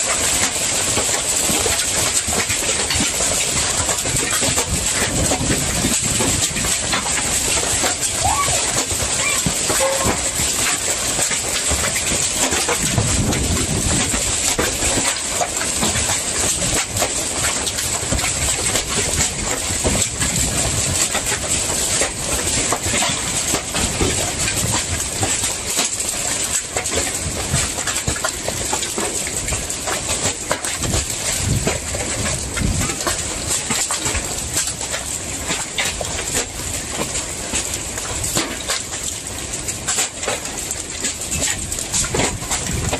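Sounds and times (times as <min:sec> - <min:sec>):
hailstones clattering on hard surfaces: 0:00.0 - 0:42.9
heavy rain hissing: 0:00.0 - 0:42.9.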